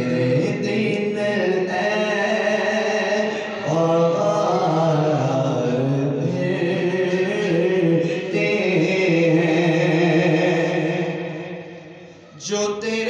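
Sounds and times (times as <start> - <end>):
man singing unaccompanied: 0.0 - 11.4.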